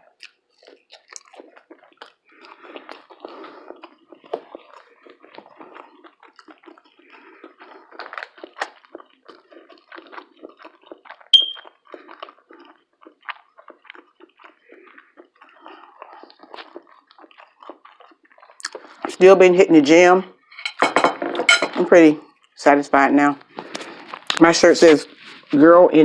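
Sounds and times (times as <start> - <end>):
person chewing and smacking: 0.0 - 19.3, 22.2 - 22.6, 23.4 - 25.5.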